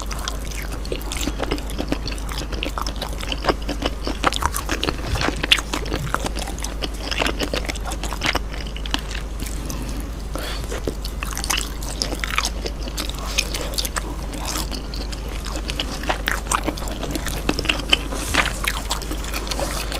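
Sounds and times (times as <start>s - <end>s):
close chewing and biting: 0.0s - 19.9s
steady low hum: 0.0s - 19.9s.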